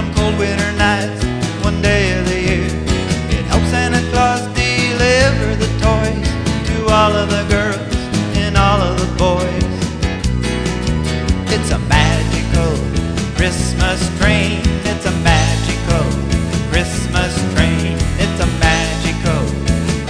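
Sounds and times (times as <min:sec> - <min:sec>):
country christmas song: 0:00.0 - 0:20.0.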